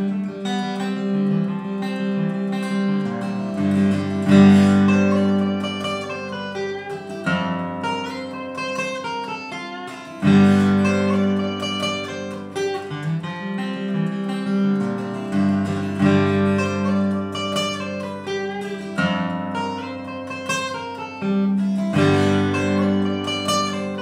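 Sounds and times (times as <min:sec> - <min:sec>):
acoustic guitar bluegrass picking: 0:00.0 - 0:24.0.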